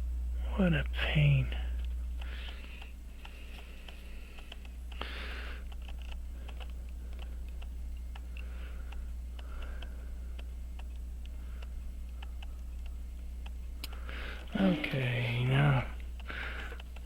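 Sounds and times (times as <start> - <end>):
low electrical hum: 0.0 - 17.0
light ticking: 0.9 - 17.0.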